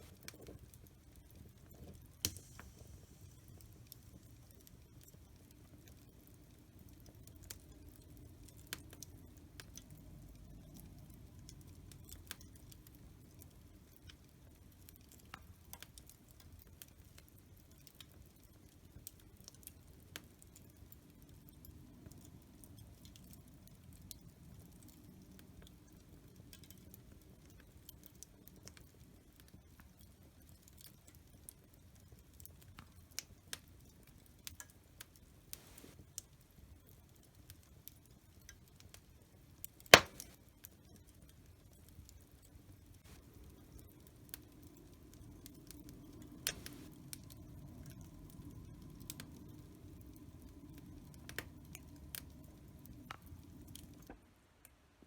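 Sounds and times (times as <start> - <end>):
wood fire crackling: 0.0 - 54.8.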